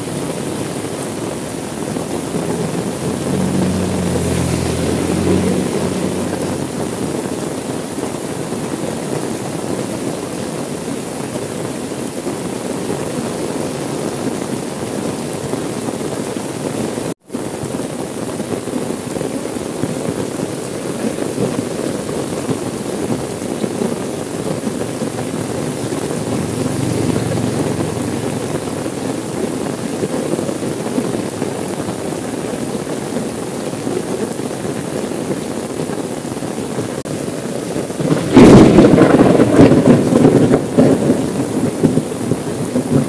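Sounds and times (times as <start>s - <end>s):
heavy rain on car roof: 0.0s - 43.0s.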